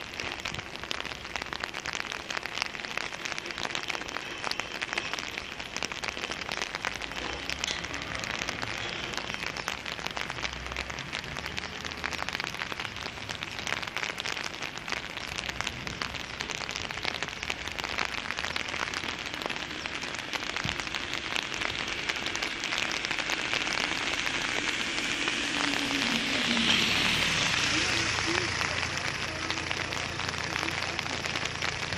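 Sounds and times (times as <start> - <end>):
rain falling on wet pavement: 0.0 - 31.9.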